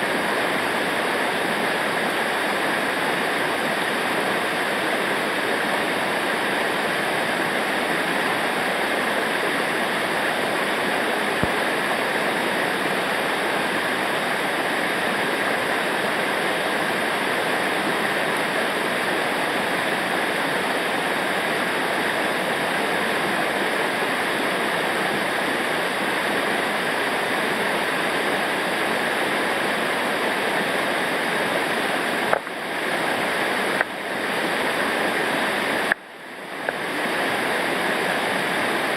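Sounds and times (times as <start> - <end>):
river rapids rushing: 0.0 - 38.9.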